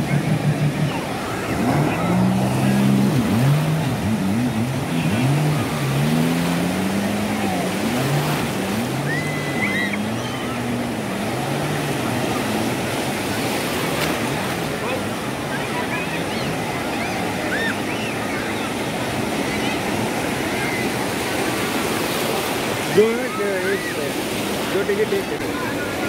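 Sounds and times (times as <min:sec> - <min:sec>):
jet ski engine revving: 0:00.0 - 0:26.0
waves breaking: 0:00.0 - 0:26.0.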